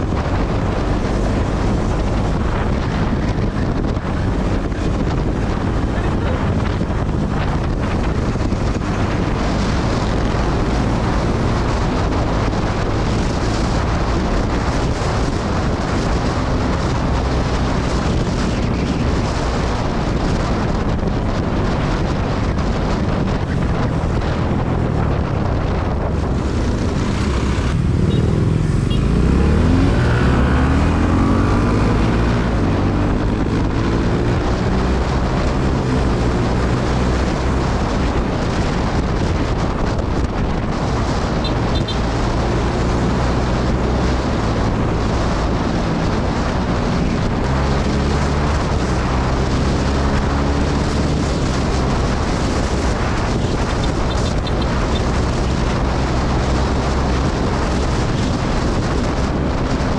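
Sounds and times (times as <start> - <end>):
motorcycle engine accelerating: 0.0 - 59.9
wind rushing over microphone: 0.0 - 59.9.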